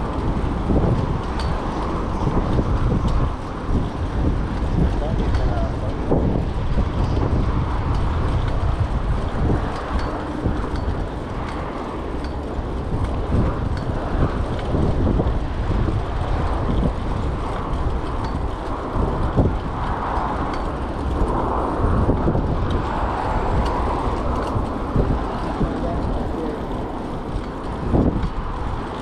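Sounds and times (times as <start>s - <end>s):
street traffic: 0.0s - 29.0s
wind buffeting microphone: 0.0s - 29.0s.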